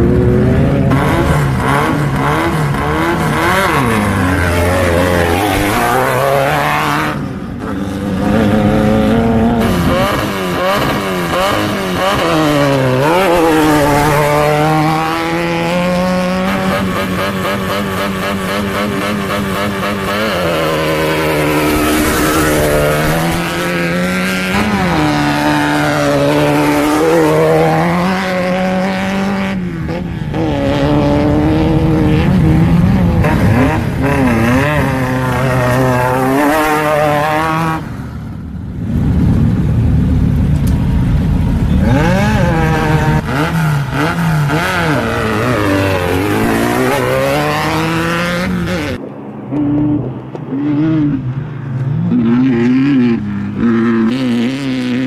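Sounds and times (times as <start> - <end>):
buggy engines accelerating: 0.0 - 55.0
distant buggy engine: 0.0 - 55.0.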